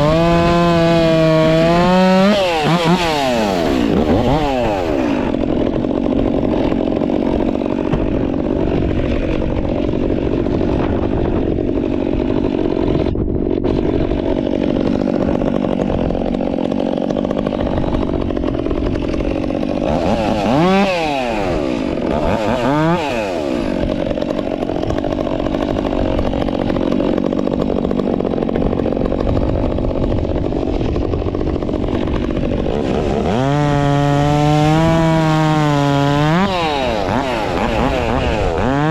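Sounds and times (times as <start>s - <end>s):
chainsaw running at full throttle: 0.0s - 38.9s.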